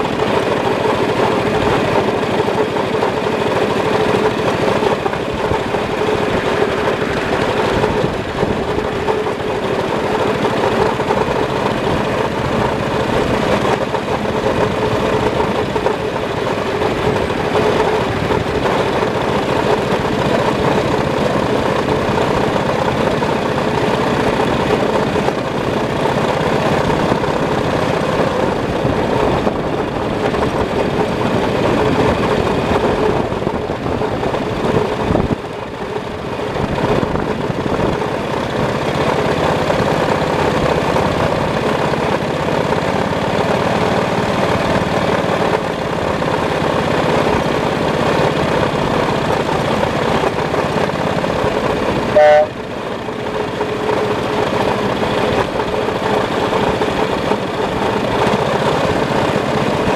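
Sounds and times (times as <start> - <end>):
miniature locomotive running: 0.0 - 59.9.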